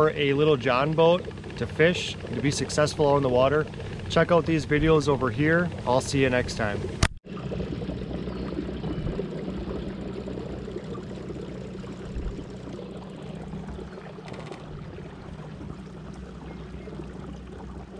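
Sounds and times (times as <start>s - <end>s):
water rushing along hull: 0.0s - 17.9s.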